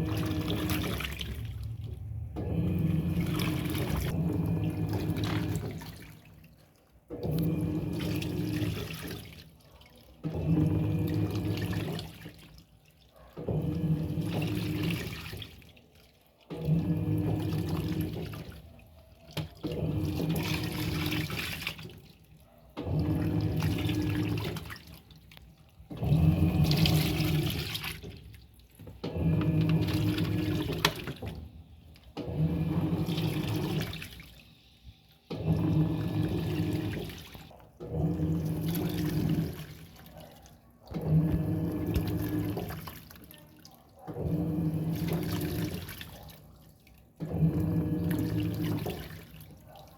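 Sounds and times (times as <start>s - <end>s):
washing machine motor hum: 0.0s - 49.9s
water sloshing: 0.0s - 49.9s.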